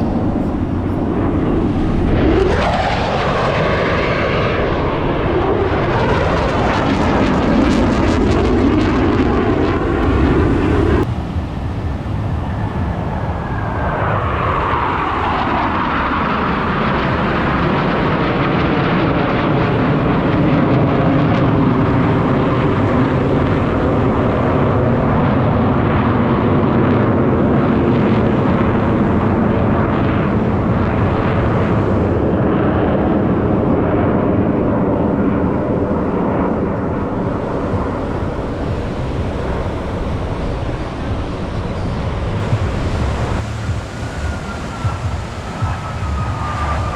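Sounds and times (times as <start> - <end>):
jet passing with falling pitch: 0.0 - 46.9
jet roar: 0.0 - 46.9.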